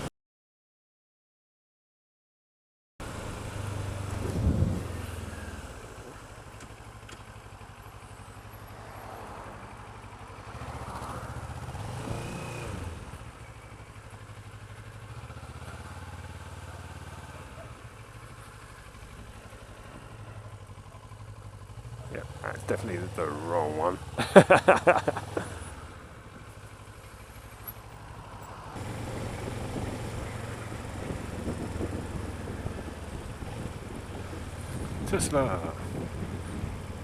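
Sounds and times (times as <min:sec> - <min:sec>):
motorcycle engine at low revs: 0:03.0 - 0:37.0.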